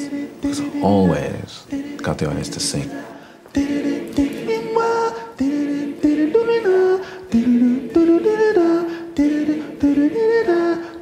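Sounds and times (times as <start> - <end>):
person singing a cappella: 0.0 - 11.0.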